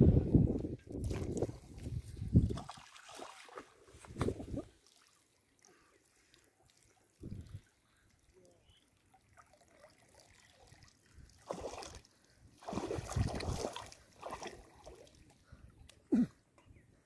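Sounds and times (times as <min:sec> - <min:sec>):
water splashing: 0:01.0 - 0:15.3.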